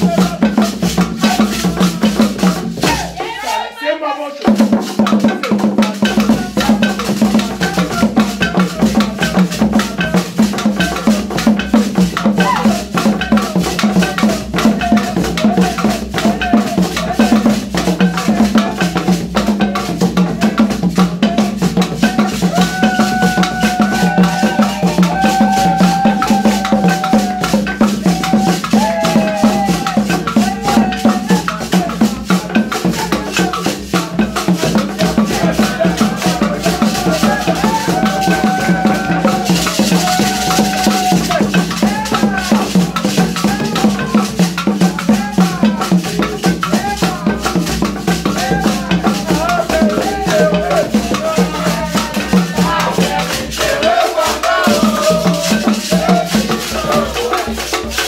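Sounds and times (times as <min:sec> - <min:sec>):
drums: 0:00.0 - 0:03.2, 0:04.4 - 0:58.0
rattling shaker: 0:04.5 - 0:58.0.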